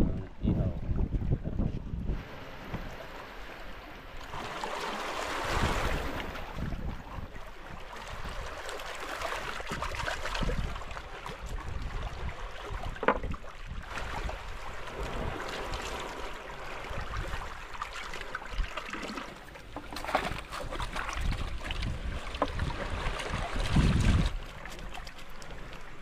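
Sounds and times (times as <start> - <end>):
wind buffeting microphone: 0.0 - 4.6, 5.2 - 8.7, 9.3 - 17.7, 19.6 - 25.1
water washing at shoreline: 0.0 - 26.0.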